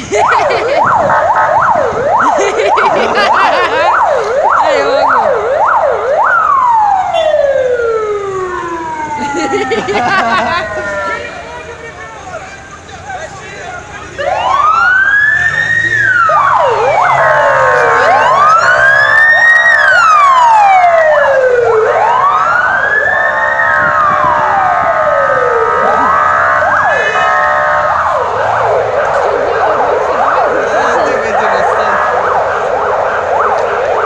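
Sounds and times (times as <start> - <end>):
emergency siren wailing: 0.0 - 34.0
fast warbling siren: 0.2 - 11.7, 14.2 - 34.0.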